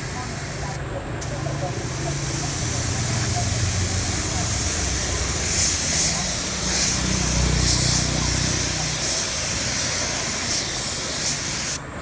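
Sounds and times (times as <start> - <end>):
spray gun hissing: 0.0 - 11.8.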